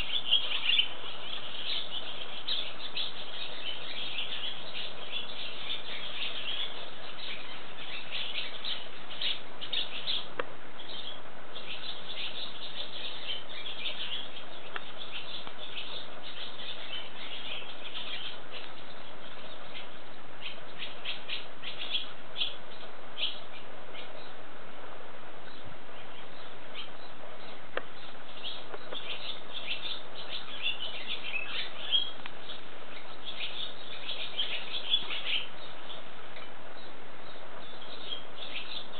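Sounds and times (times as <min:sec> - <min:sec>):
swallows twittering: 0:00.0 - 0:24.4, 0:25.4 - 0:38.9.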